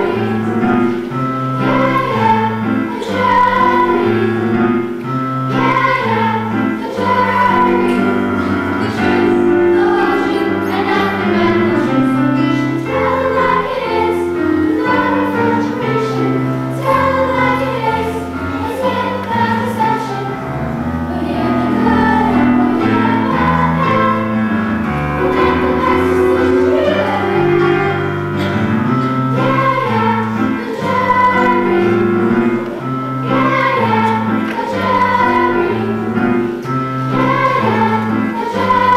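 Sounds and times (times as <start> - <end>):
choir singing: 0.0 - 38.9
instrumental accompaniment: 0.0 - 38.9.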